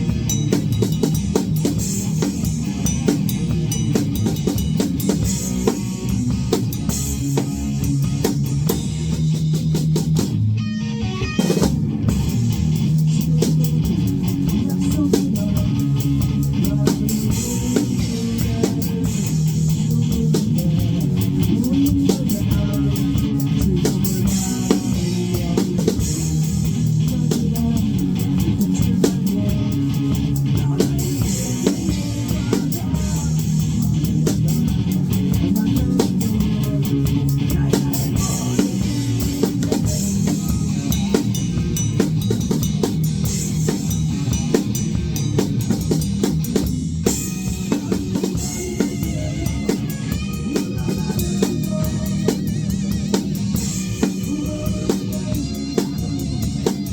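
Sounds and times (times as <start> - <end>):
bass guitar: 0.0 - 56.9
drum kit steady beat: 0.0 - 56.9
electric guitar: 0.0 - 56.9.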